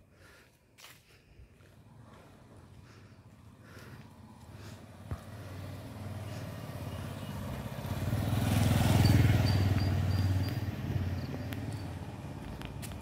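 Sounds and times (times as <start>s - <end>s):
vehicle passing by: 1.6s - 13.0s.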